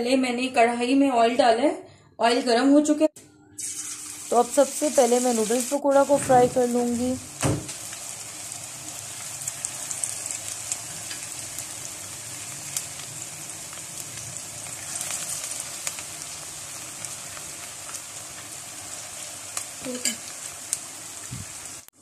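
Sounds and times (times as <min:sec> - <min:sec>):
deep-frying in hot oil: 0:03.6 - 0:22.0.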